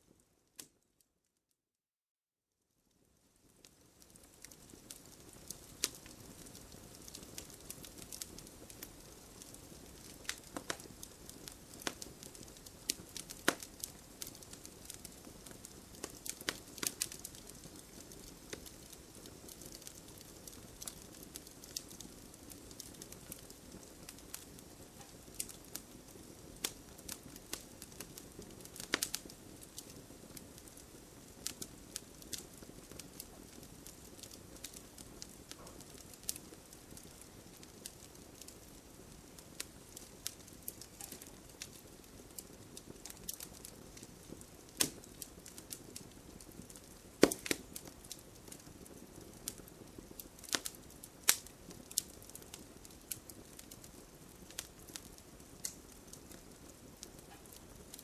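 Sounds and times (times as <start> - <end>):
wood fire crackling and popping: 0.0 - 0.9, 2.8 - 58.0.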